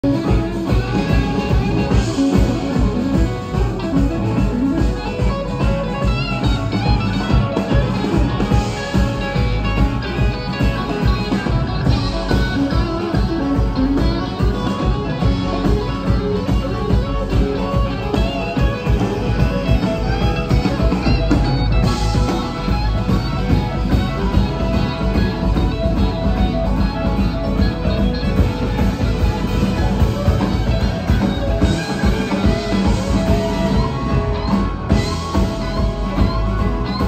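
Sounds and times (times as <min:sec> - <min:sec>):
bass guitar: 0:00.0 - 0:37.0
drums: 0:00.0 - 0:37.0
electric guitars: 0:00.0 - 0:37.0
keyboard: 0:00.0 - 0:37.0.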